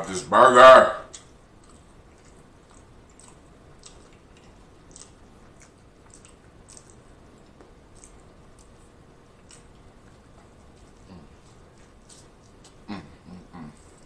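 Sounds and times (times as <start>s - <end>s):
wet chewing mouth clicks: 1.1s - 14.0s.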